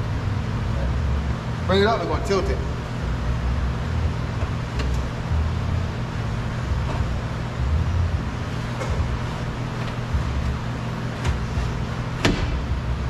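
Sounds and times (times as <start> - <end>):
low background rumble with hum: 0.0 - 13.0.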